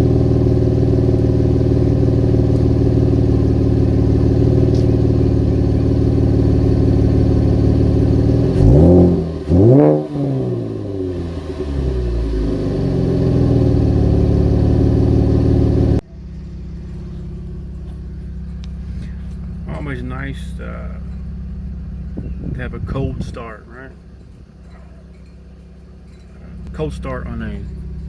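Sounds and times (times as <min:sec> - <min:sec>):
car engine idling: 0:00.0 - 0:28.0
engine revving: 0:00.0 - 0:28.0.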